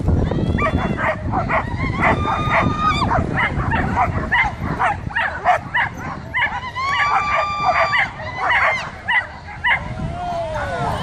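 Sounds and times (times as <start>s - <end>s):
dogs barking shrilly: 0.6s - 10.0s.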